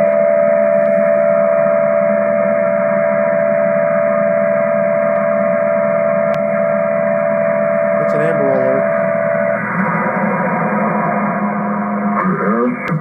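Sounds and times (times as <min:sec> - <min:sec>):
buzzy hum: 0:00.4 - 0:13.0.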